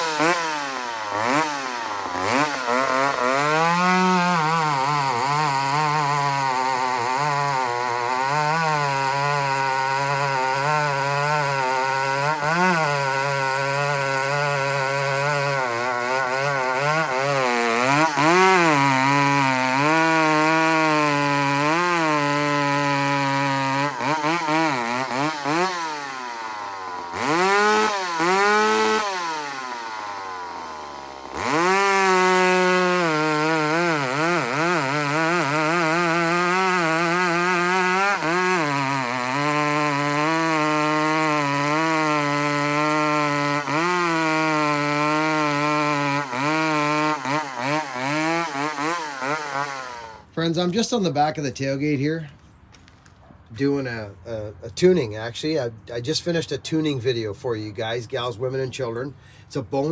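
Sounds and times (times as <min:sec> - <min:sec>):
chainsaw sawing through log: 0:00.0 - 0:52.3, 0:53.4 - 0:59.9.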